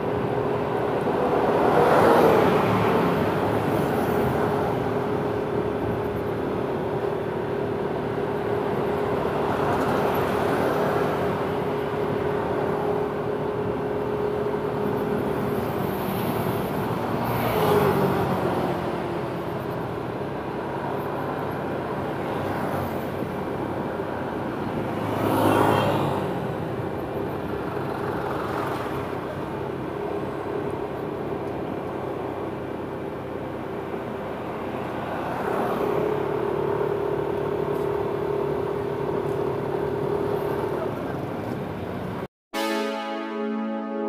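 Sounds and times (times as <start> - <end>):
passing traffic: 0.0 - 44.0
road noise: 0.0 - 44.0.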